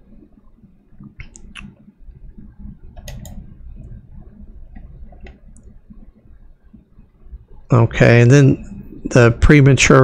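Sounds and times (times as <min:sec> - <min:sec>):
low rumble of room noise: 0:00.0 - 0:10.0.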